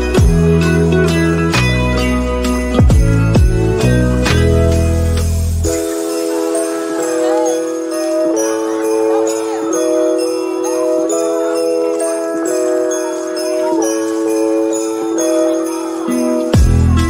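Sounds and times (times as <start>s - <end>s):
held chords: 0.0s - 17.0s
sleigh bells ringing to a beat: 0.0s - 17.0s.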